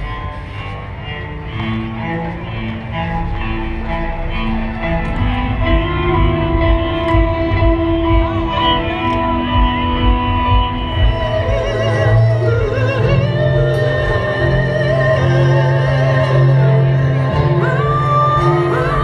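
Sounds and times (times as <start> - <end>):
music with steady beat: 1.5 - 19.0.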